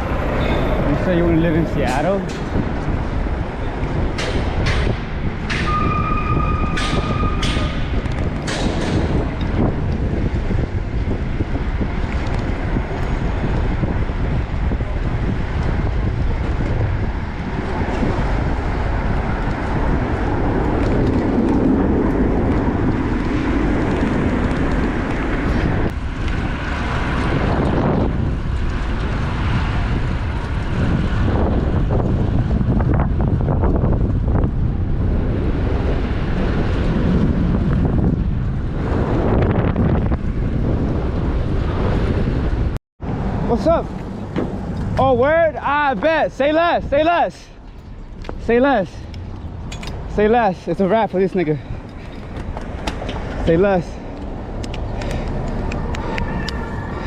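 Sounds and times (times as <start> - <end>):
traffic noise: 0.0 - 57.0
wind on microphone: 0.0 - 57.0.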